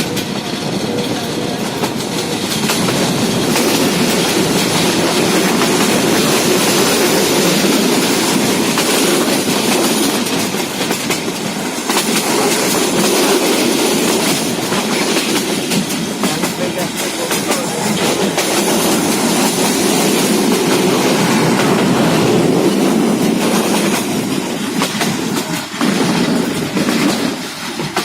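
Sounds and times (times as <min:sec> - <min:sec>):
train rumbling on rails: 0:00.0 - 0:28.0
wheels clicking over track: 0:00.0 - 0:28.0.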